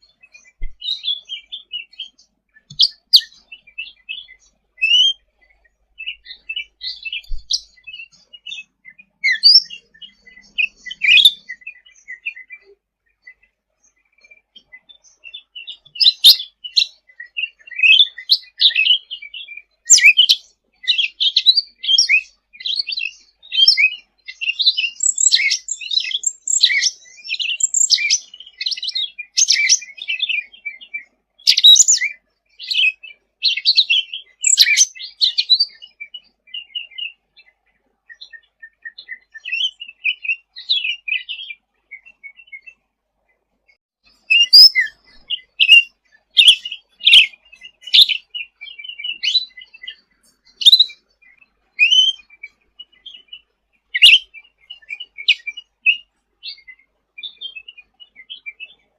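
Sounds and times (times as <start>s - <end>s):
songbird chattering song: 0.0s - 58.9s.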